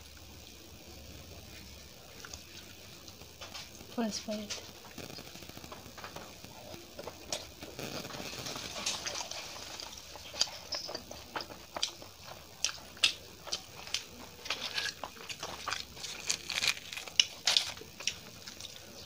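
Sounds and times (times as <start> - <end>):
person chewing food: 1.3 - 4.0, 4.6 - 19.0.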